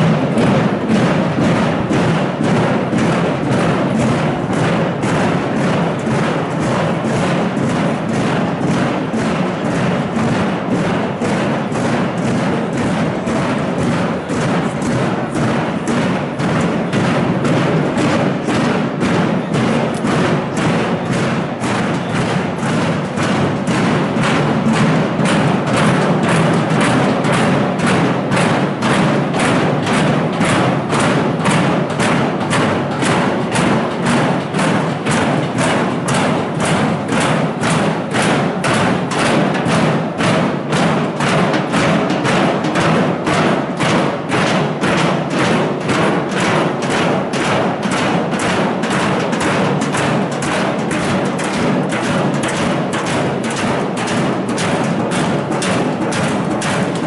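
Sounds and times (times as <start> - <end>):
protesters banging a rhythm: 0.0 - 57.0.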